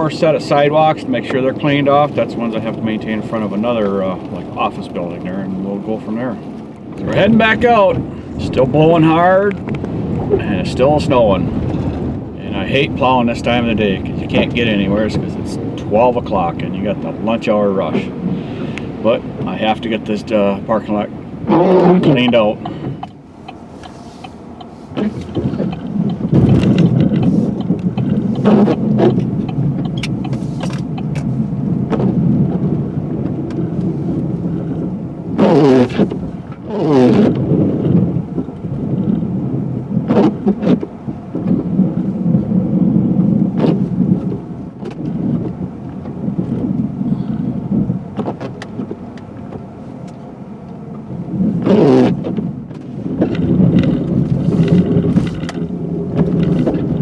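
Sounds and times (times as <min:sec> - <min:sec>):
plow blade scraping snow: 0:00.0 - 0:44.4, 0:51.3 - 0:57.0
truck engine under load: 0:06.5 - 0:57.0.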